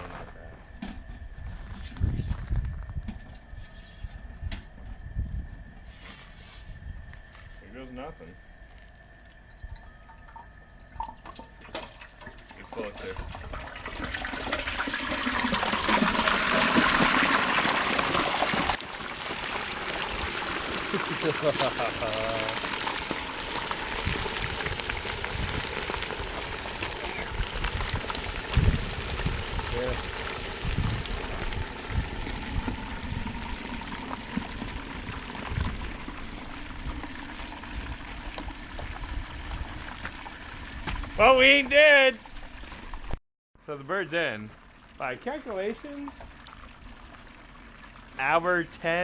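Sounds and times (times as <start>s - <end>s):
hot oil sizzling and bubbling: 0.0s - 49.0s
loud hiss of boiling moisture: 0.0s - 49.0s.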